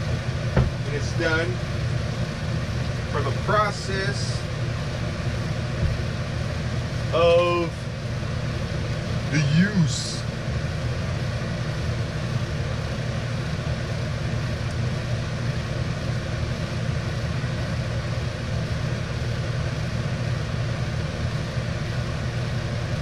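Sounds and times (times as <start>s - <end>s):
machine drone: 0.0s - 23.0s.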